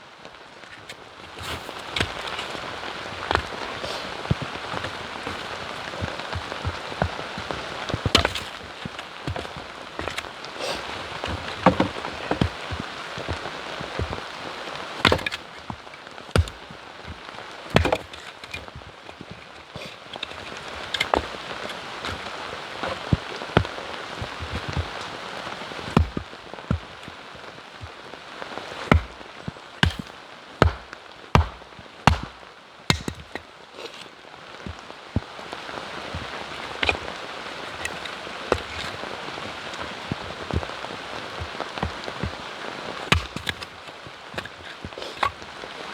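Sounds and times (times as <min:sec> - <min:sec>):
steady rain: 0:00.0 - 0:45.9
wood chopping strikes: 0:00.8 - 0:14.2, 0:15.0 - 0:27.2, 0:28.8 - 0:42.4, 0:43.0 - 0:45.4.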